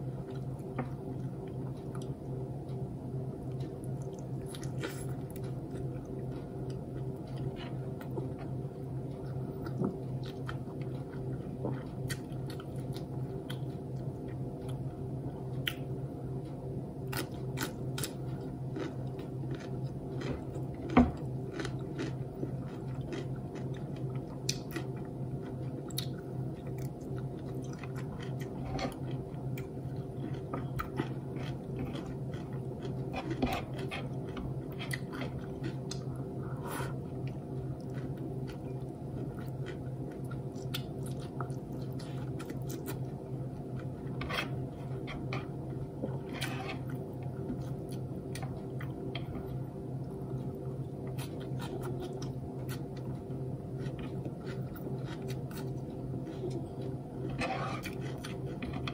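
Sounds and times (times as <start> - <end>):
low hum: 0.0 - 58.9
person chewing and biting: 3.5 - 14.8, 17.0 - 49.6, 50.3 - 58.9.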